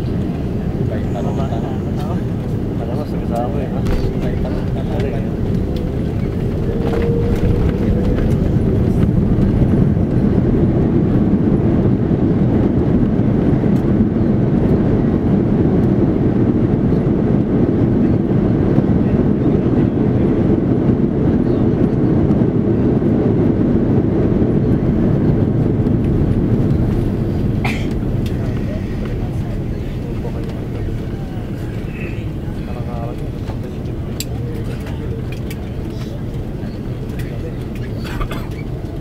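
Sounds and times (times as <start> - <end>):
jet engines roaring in cabin: 0.0 - 39.0.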